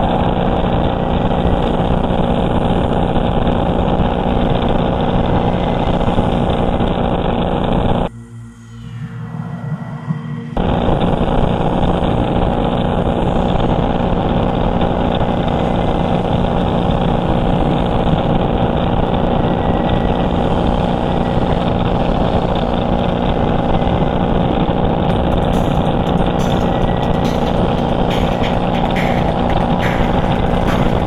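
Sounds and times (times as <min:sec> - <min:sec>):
boat engine drone: 0:00.0 - 0:31.0.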